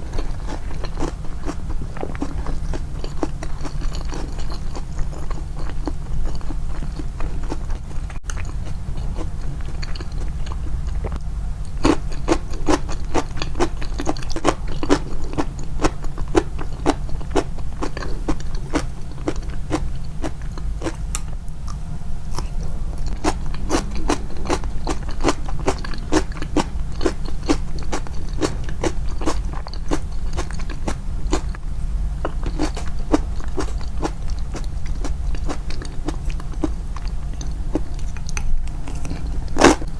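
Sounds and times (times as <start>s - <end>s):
crunchy chewing: 0.0s - 31.6s, 32.2s - 39.9s
steady low hum: 0.0s - 39.9s.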